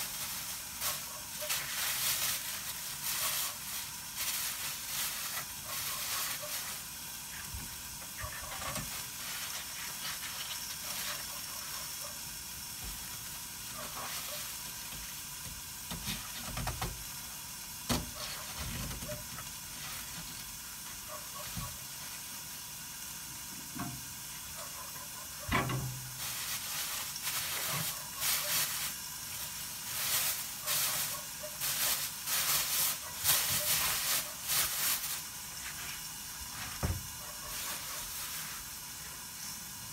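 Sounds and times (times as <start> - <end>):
steam hissing: 0.0 - 24.6, 25.5 - 39.9.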